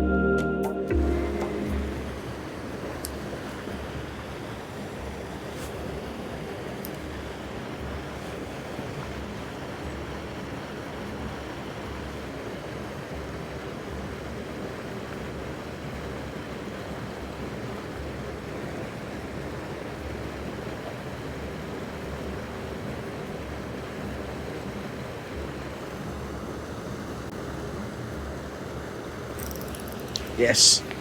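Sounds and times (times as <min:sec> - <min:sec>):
flowing water rushing: 0:00.9 - 0:31.0.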